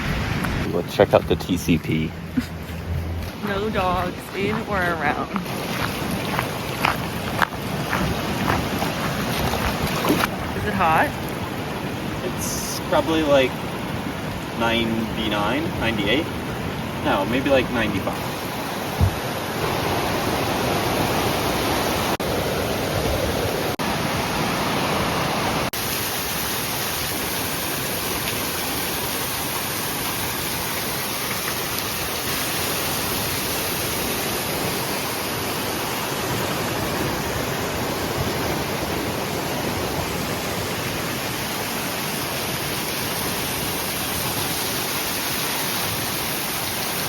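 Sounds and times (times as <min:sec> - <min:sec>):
river water rushing: 0:00.0 - 0:17.2, 0:18.2 - 0:47.0.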